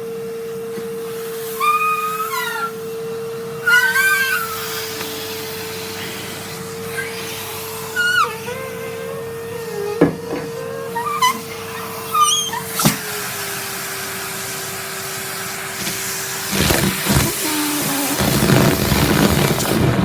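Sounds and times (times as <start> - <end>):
vacuum cleaner motor hum: 0.0 - 20.0
high squeaky whines: 1.0 - 20.0.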